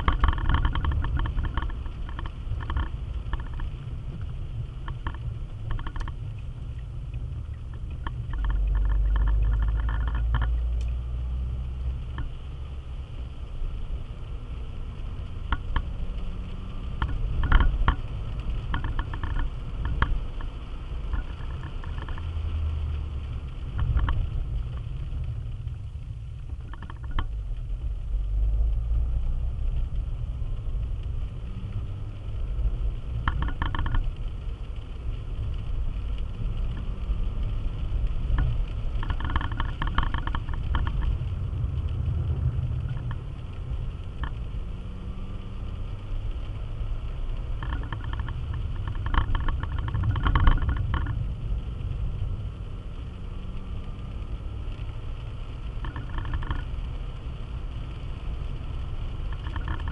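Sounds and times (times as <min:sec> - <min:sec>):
clicking and rattling in car: 0:00.0 - 0:11.0, 0:12.0 - 0:28.2, 0:29.4 - 0:44.6, 0:46.2 - 0:53.1, 0:53.9 - 0:59.9
engine and tyre rumble: 0:00.0 - 0:59.9.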